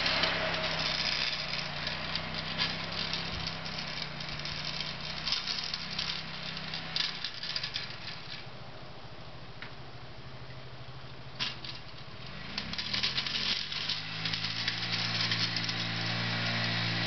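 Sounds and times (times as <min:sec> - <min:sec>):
plow rattling clatter: 0:00.0 - 0:08.5, 0:11.3 - 0:17.0
atv engine hum: 0:00.0 - 0:17.0.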